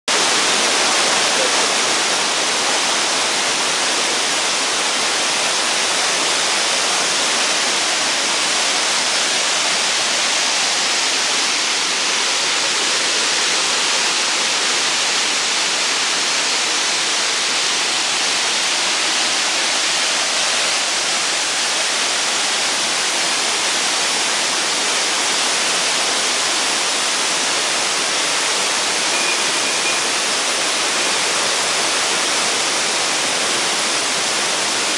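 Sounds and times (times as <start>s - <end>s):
waterfall pouring: 0.1s - 34.9s.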